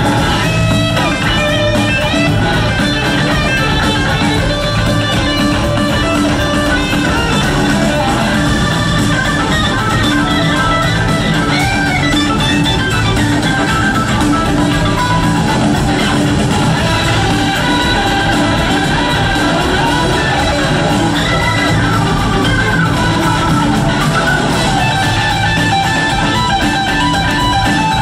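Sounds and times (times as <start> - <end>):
bass guitar: 0.0 - 28.0
drums: 0.0 - 28.0
electric guitar lead lines: 0.0 - 28.0.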